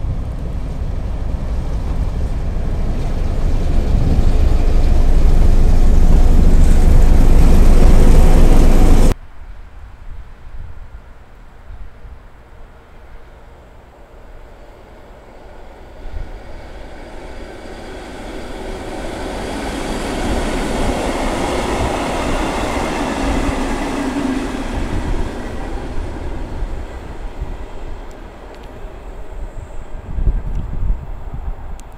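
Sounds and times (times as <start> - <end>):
train rumbling on rails: 0.0 - 9.2, 10.7 - 31.9.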